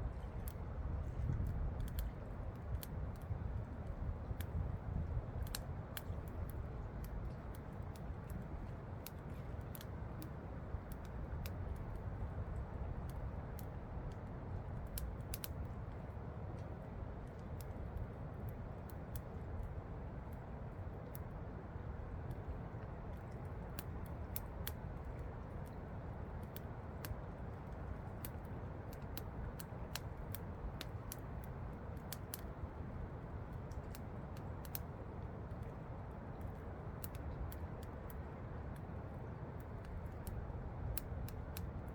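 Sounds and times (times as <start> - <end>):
campfire crackling and popping: 0.2 - 41.9.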